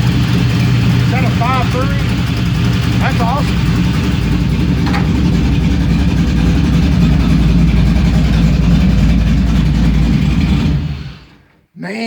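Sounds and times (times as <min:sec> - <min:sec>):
truck engine idling: 0:00.0 - 0:11.5.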